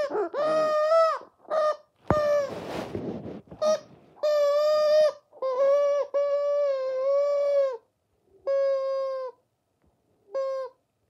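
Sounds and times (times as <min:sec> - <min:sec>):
rubber chicken toy squawking: 0:00.0 - 0:02.6, 0:03.6 - 0:09.4, 0:10.2 - 0:10.8.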